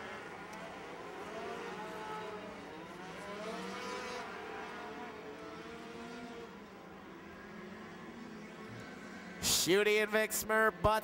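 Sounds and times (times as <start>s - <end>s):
racing truck engines passing: 0.0s - 9.8s.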